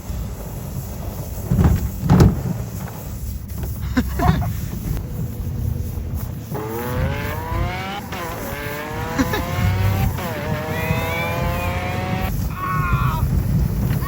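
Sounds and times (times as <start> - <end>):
engine accelerating through gears: 0.0 - 12.5.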